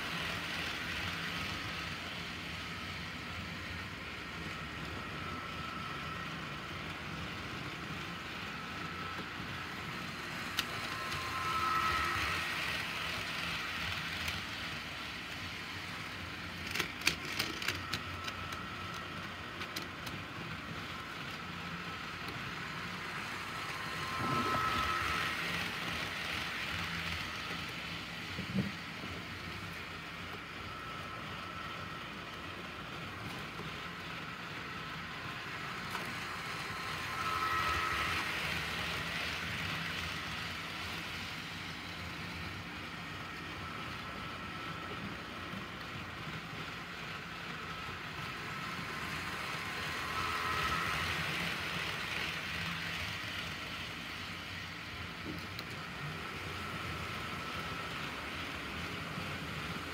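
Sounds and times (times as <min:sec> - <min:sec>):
model train motor whining: 0:00.0 - 0:59.9.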